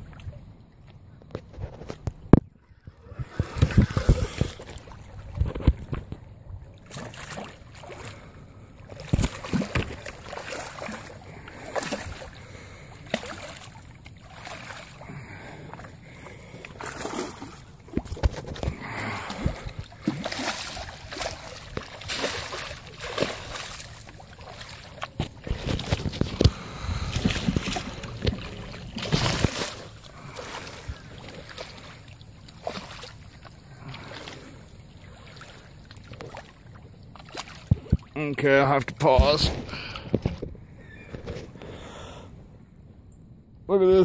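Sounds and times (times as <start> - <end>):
water splashing and sloshing: 0.0 - 42.9.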